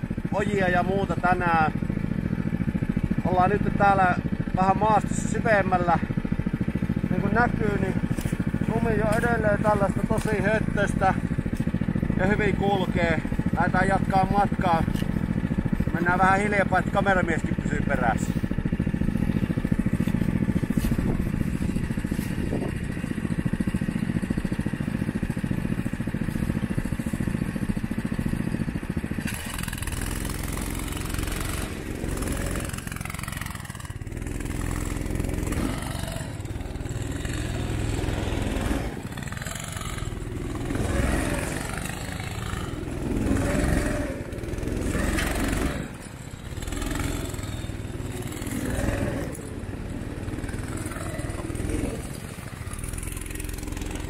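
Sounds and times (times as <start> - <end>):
snow vehicle engine revving: 0.0 - 54.0.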